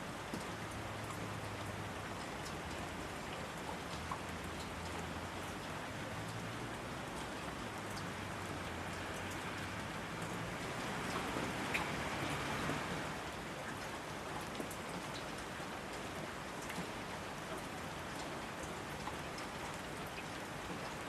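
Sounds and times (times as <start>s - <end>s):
steady rainfall: 0.0s - 21.0s
raindrops ticking: 0.2s - 21.0s.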